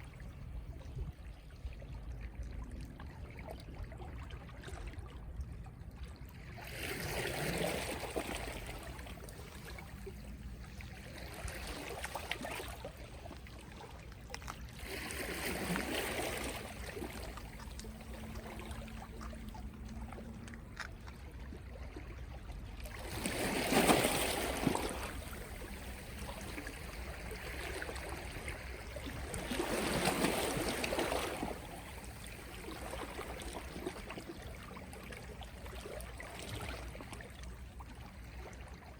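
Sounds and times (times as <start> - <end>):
gentle sea waves on shore: 0.0 - 38.9.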